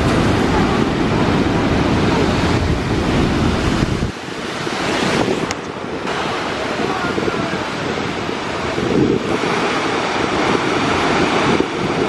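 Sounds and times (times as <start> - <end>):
heavy surf churning: 0.0 - 12.0
wind buffeting microphone: 0.0 - 12.0.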